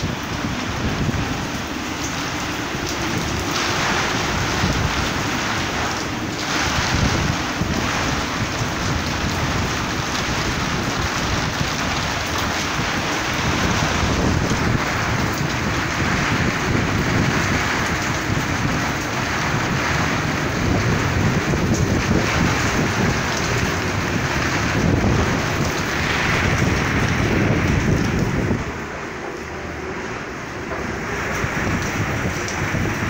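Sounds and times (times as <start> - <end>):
heavy rain: 0.0 - 33.0
strong wind buffeting microphone: 0.0 - 33.0.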